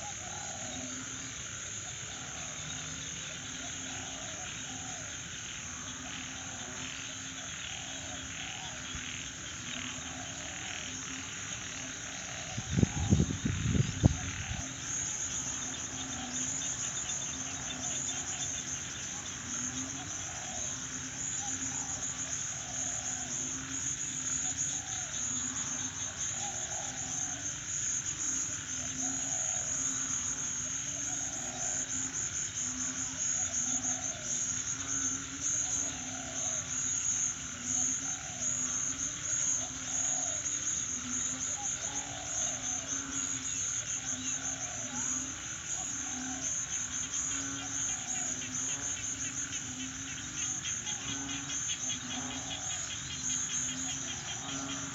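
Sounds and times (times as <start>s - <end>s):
crickets trilling: 0.0s - 54.9s
frogs calling: 0.0s - 54.9s.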